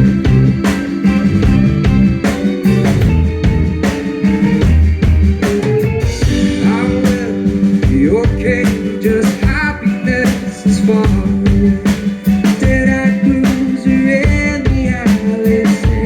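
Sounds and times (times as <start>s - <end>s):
bass guitar: 0.0s - 16.0s
bending melody line: 0.0s - 16.0s
drum kit beat: 0.0s - 16.0s
electric guitar: 0.0s - 16.0s.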